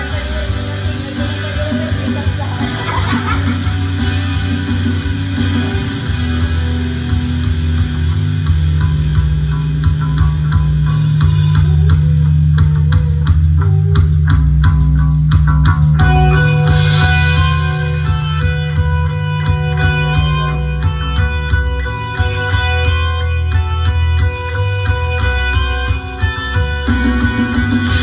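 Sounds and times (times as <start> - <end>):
bass: 0.0 - 28.0
drums: 0.0 - 28.0
electric guitar: 0.0 - 28.0.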